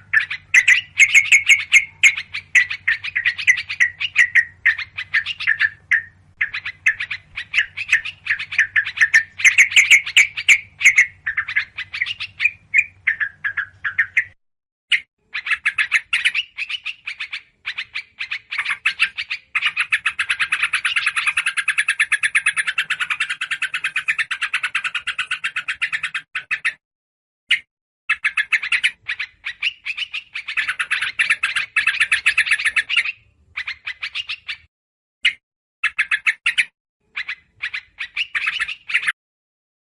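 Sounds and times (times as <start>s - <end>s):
small songbirds: 0.0s - 26.8s, 27.5s - 39.2s.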